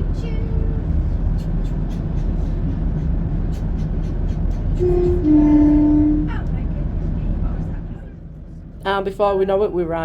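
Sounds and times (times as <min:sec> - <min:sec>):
train engine and wheels rumbling: 0:00.0 - 0:10.0.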